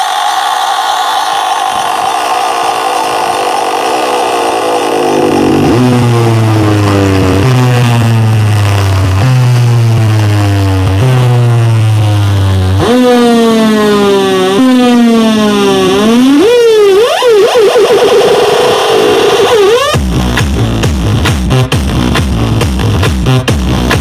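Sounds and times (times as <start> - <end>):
falling synth tone: 0.0 - 20.0
synth glides and warbling wobble: 0.7 - 20.0
deep bass note: 1.8 - 17.1, 20.0 - 24.0.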